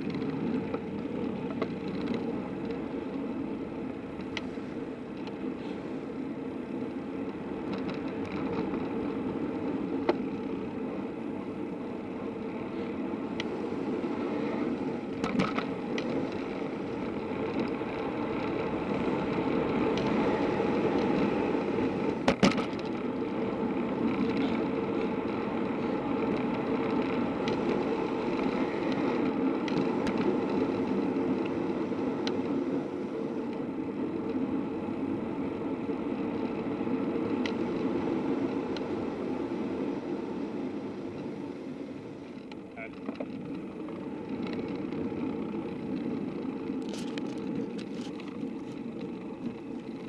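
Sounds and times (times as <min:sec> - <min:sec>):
bicycle tyre noise on road: 0:00.0 - 0:50.0.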